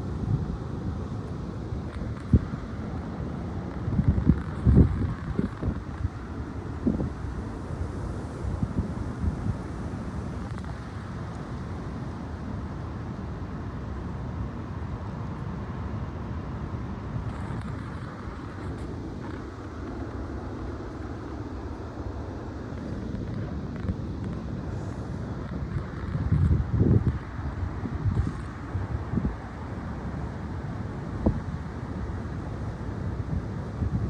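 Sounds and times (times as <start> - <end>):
strong wind rumbling on microphone: 0.0 - 34.0.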